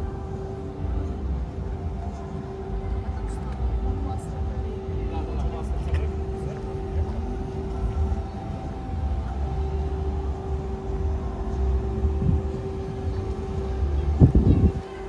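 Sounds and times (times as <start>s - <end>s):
constant humming tone: 0.0s - 15.0s
low mechanical rumble: 0.0s - 15.0s.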